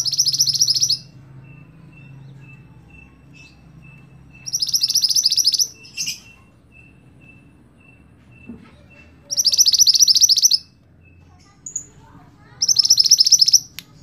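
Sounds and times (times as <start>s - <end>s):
faint high peeps: 0.0s - 13.8s
songbird trilling: 0.0s - 13.8s.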